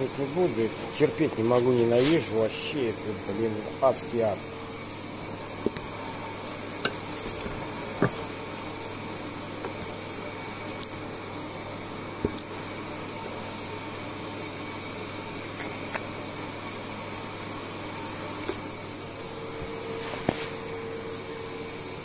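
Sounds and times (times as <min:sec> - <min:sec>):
workshop room hum and hiss: 0:00.0 - 0:22.0.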